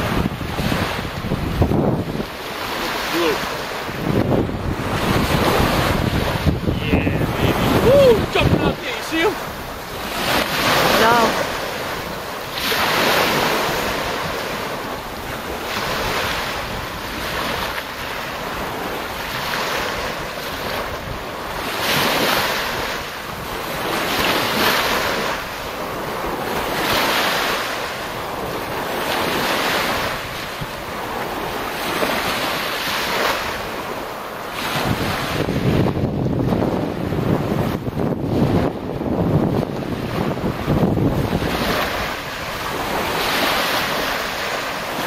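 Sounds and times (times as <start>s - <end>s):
waves breaking on beach: 0.0s - 45.0s
wind rumble on microphone: 0.0s - 45.0s.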